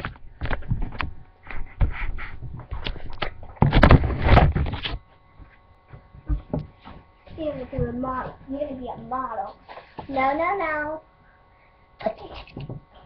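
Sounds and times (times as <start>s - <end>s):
rustling and bumping on microphone: 0.0s - 10.5s, 12.0s - 13.0s.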